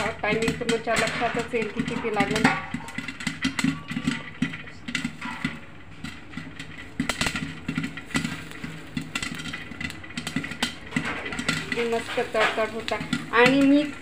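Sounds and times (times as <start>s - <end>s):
popcorn popping in metal pot: 0.0s - 14.0s.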